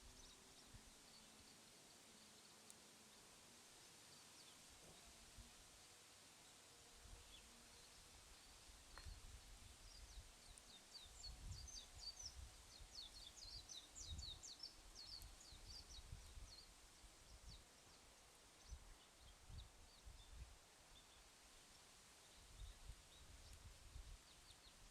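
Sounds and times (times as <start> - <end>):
faint bird chirping: 0.0 - 5.5, 6.3 - 24.9.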